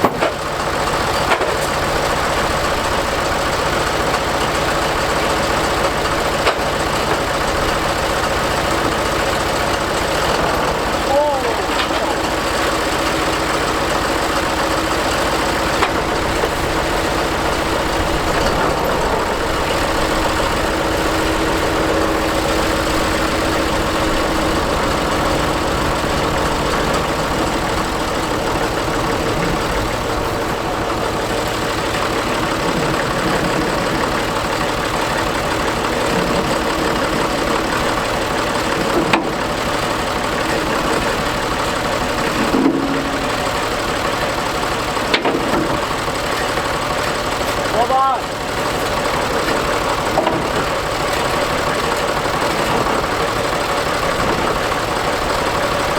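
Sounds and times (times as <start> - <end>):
tractor engine idling: 0.0 - 55.9.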